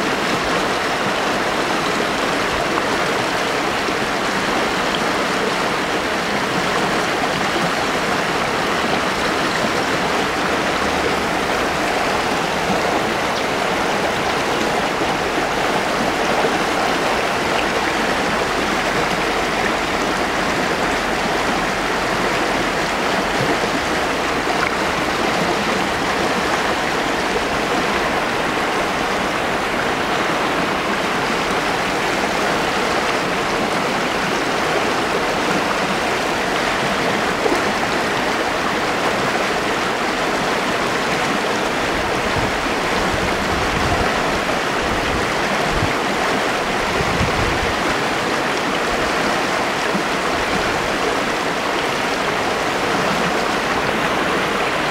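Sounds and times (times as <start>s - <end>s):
river rushing over boulders: 0.0s - 54.9s.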